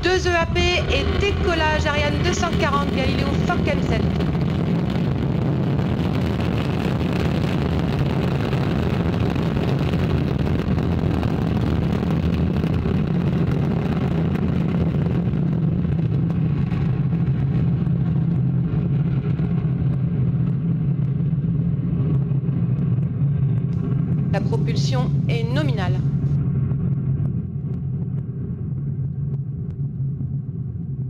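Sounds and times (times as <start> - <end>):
rocket engine rumble: 0.0 - 31.0.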